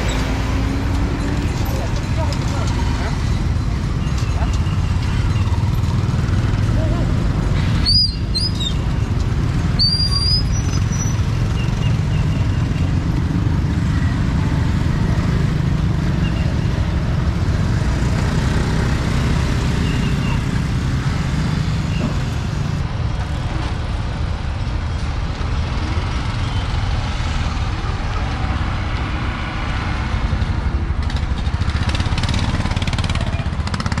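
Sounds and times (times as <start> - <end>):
rumble of passing vehicles: 0.0 - 34.0.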